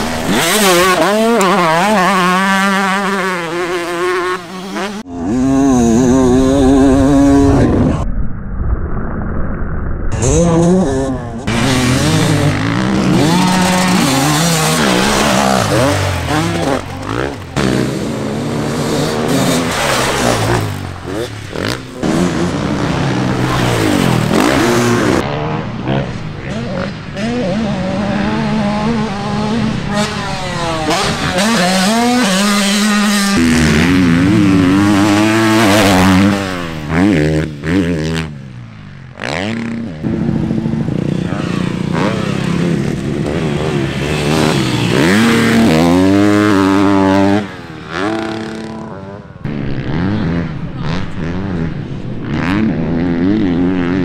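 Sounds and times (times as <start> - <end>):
motocross bike engines revving: 0.0 - 8.0, 10.1 - 54.0.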